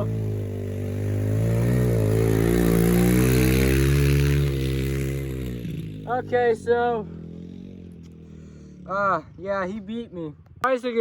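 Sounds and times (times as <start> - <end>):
pit bike engine revving: 0.0 - 9.9.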